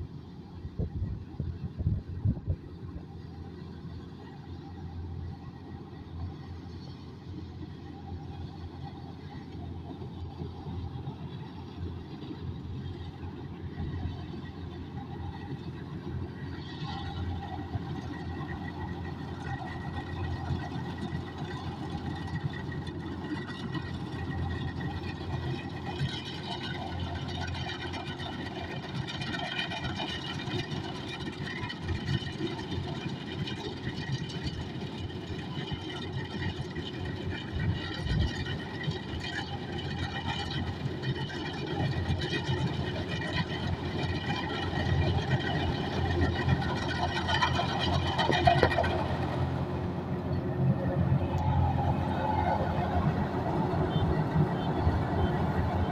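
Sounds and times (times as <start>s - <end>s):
diesel engine drone: 0.0s - 55.9s
machinery whine: 0.0s - 55.9s.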